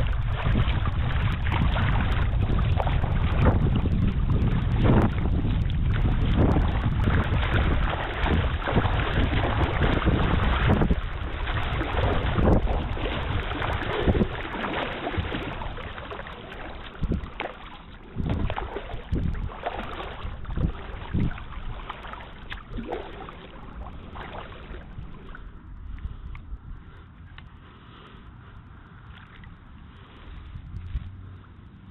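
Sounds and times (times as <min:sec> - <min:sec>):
water splashes: 0:00.0 - 0:26.6, 0:28.7 - 0:31.9
wind buffeting microphone: 0:00.0 - 0:27.5, 0:28.5 - 0:31.9
water lapping at hull: 0:00.0 - 0:31.9.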